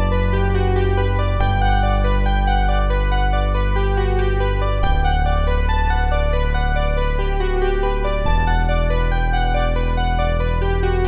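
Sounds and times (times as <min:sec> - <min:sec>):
keyboard melody over bass chords: 0:00.0 - 0:11.0.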